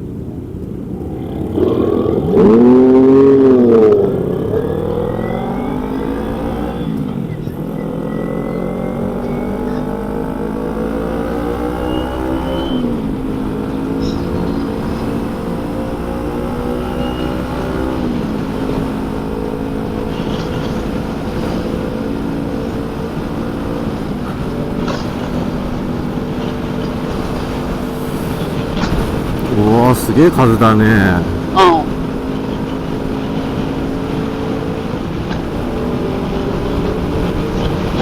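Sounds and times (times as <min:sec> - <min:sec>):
motorcycle engine shifting gears: 0:00.0 - 0:29.8, 0:31.2 - 0:38.0.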